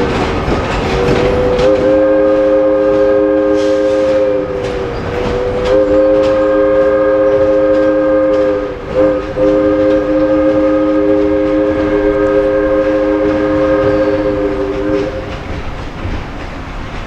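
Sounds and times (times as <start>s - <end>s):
train running rumble: 0.0s - 17.0s
locomotive air horn: 1.0s - 15.4s.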